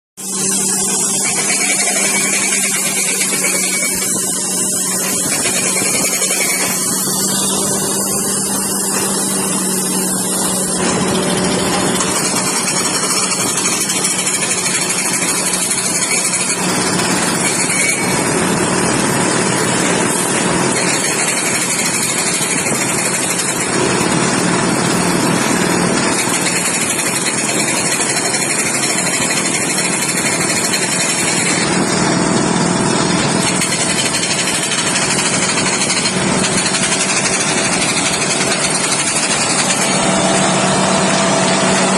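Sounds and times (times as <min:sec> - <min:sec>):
drilling rig engine running: 0:00.2 - 0:41.9.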